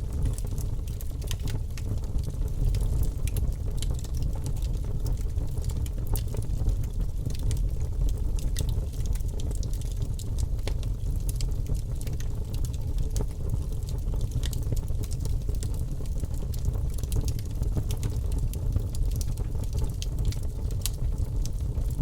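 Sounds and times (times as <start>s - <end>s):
logs crackling and popping: 0.0s - 22.0s
low rumble of fire: 0.0s - 22.0s.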